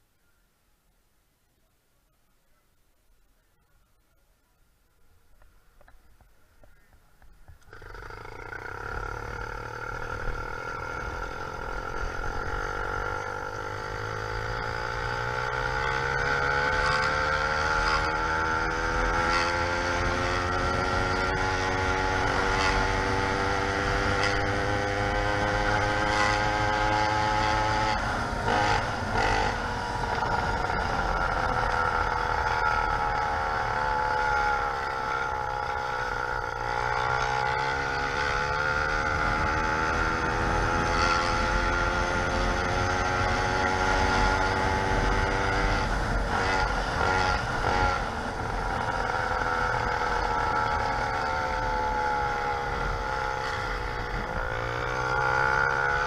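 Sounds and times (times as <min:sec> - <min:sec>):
two-stroke bicycle engine revving: 0:07.6 - 0:56.0.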